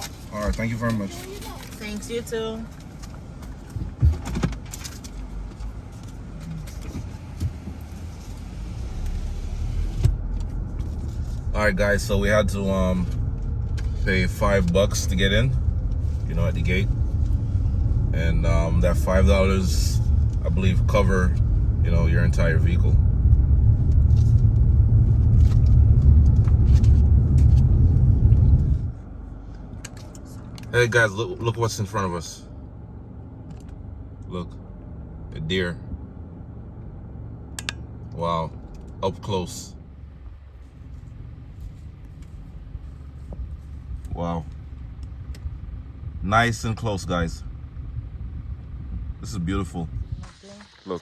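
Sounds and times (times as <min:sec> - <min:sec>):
engine and road rumble: 0:00.0 - 0:51.0.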